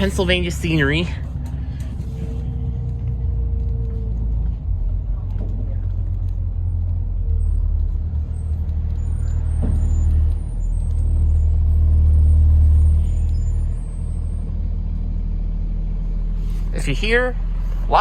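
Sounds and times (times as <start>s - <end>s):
bus body rattles: 0.0s - 16.8s
bus diesel engine drone: 0.0s - 18.0s.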